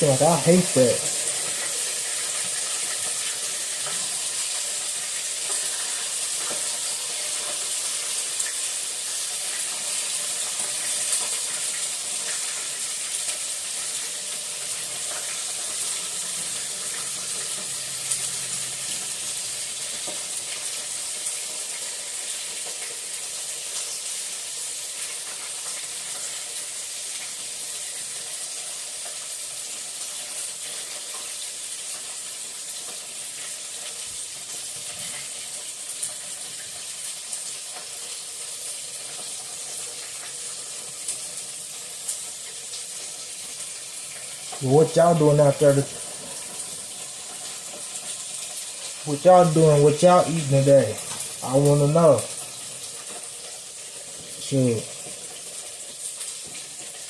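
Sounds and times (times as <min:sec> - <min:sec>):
chicken frying in hot oil: 0:00.0 - 0:57.0.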